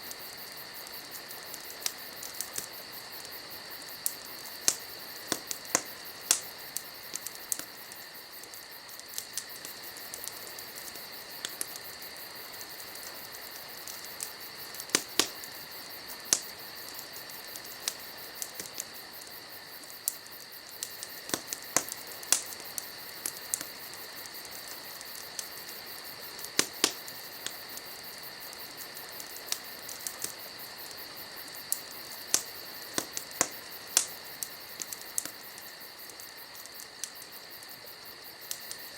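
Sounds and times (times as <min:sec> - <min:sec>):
high insect trill: 0:00.0 - 0:38.9
wood fire crackling and popping: 0:00.0 - 0:38.9.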